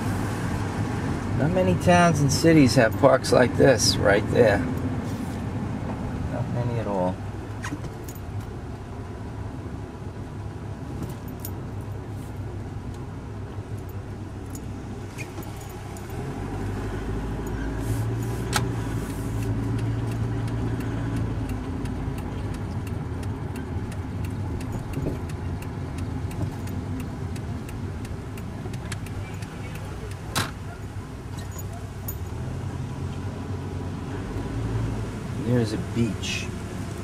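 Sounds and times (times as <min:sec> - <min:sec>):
car engine hum: 0:00.0 - 0:37.0
road noise: 0:00.0 - 0:37.0.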